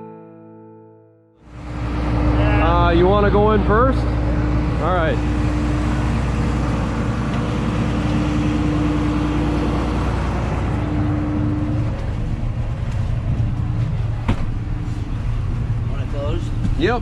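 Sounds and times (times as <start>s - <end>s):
combine harvester engine rumbling: 1.4s - 17.0s
steady high hum: 1.5s - 17.0s.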